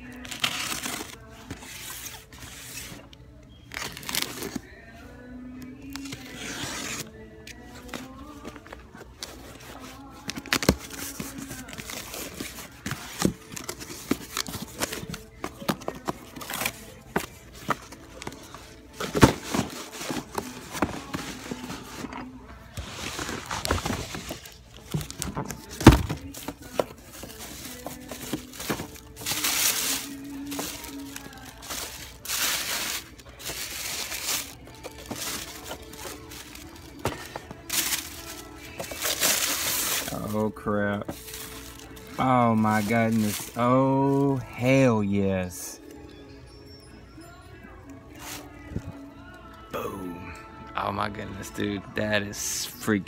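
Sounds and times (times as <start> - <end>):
plastic packs rustling in a box: 0.0 - 3.1, 3.7 - 4.9, 5.8 - 44.7, 48.1 - 49.4.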